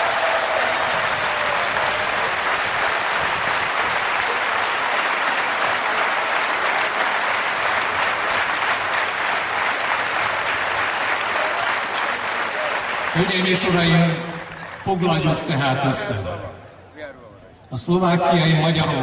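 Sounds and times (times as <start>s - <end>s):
crowd applauding: 0.0s - 16.1s.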